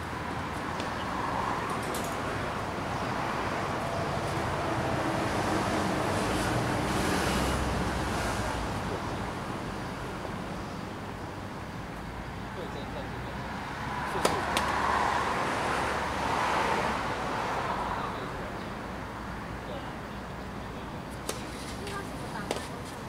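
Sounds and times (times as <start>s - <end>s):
road traffic rushing: 0.0s - 23.0s.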